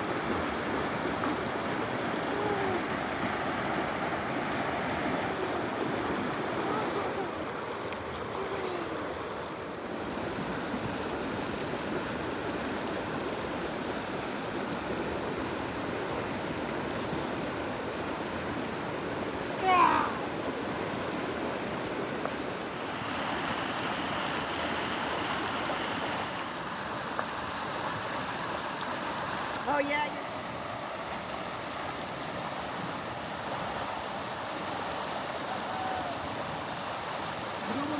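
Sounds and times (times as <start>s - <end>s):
river rushing over rocks: 0.0s - 37.9s.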